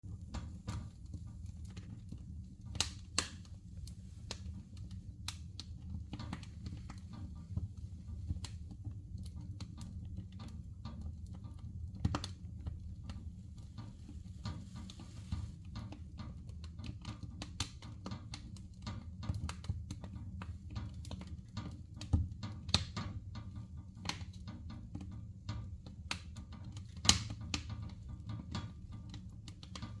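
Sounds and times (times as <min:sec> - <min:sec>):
low fire rumble: 0:00.0 - 0:30.0
fire crackling and popping: 0:00.1 - 0:30.0.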